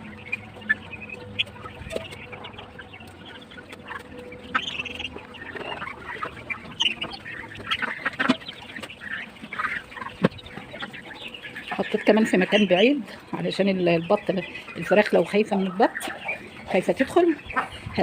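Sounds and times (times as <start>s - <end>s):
ducks and chickens calling: 0.0s - 18.0s.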